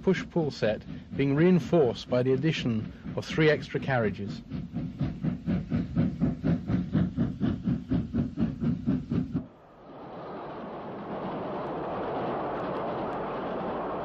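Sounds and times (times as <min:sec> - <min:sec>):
steady steam hiss: 0:00.0 - 0:14.0
steam locomotive exhaust chuffs: 0:00.0 - 0:14.0.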